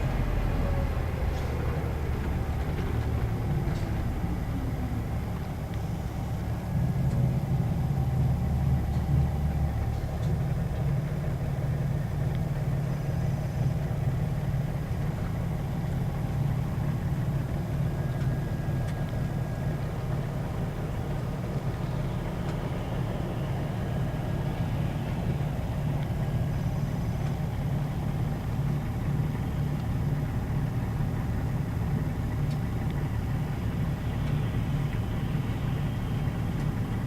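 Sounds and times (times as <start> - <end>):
bus diesel engine rumbling: 0.0 - 37.0.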